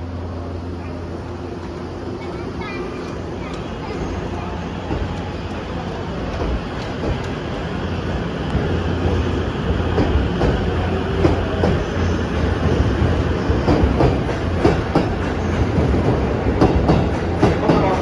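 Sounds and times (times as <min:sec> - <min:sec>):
train low hum: 0:00.0 - 0:18.0.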